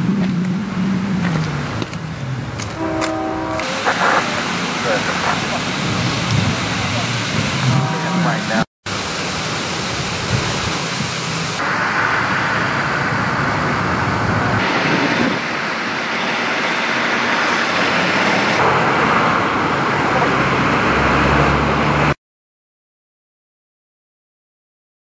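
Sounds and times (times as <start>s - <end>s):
distant traffic: 0.0s - 22.2s.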